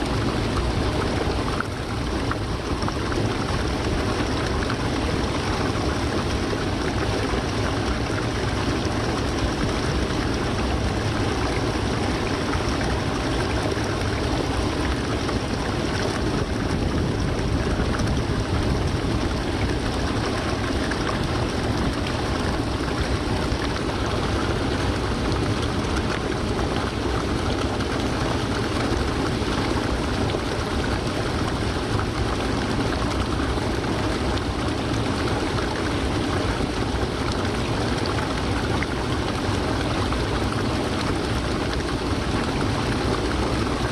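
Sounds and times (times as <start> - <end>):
waterfall pouring: 0.0 - 43.9.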